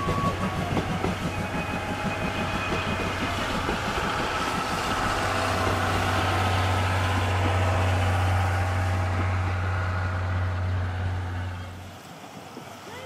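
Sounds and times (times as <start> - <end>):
train engine drone: 0.0 - 12.4
train running noise: 0.0 - 13.0.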